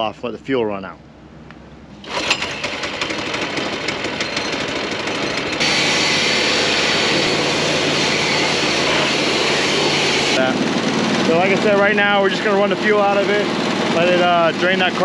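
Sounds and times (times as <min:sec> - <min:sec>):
leaf blower hissing: 0:02.0 - 0:15.0
small engine running: 0:02.0 - 0:15.0.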